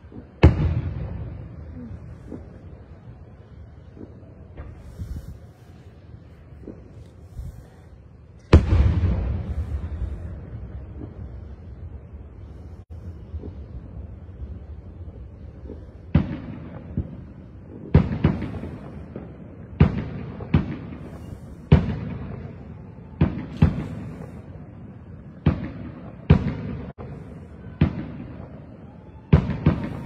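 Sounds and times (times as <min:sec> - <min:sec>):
fireworks bangs with rumble: 0:00.0 - 0:05.8, 0:06.4 - 0:07.8, 0:08.4 - 0:30.0.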